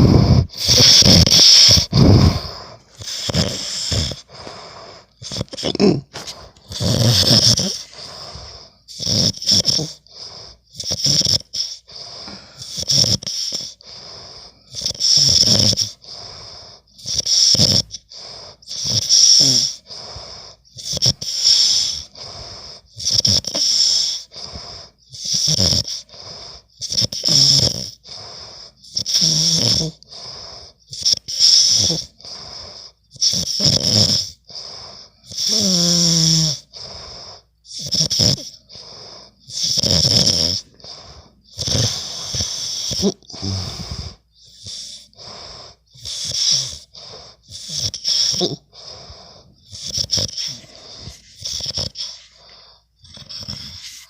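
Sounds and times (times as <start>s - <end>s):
man snoring loudly: 0.0s - 54.0s.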